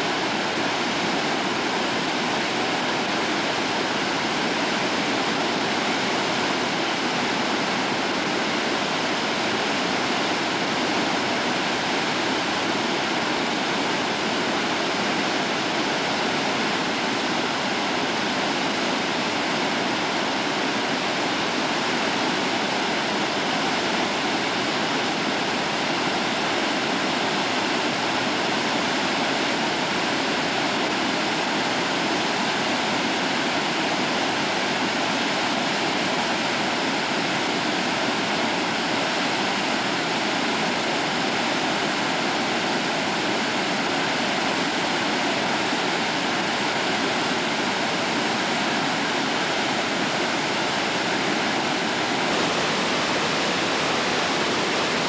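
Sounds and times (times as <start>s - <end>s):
river rushing through rapids: 0.0s - 55.0s.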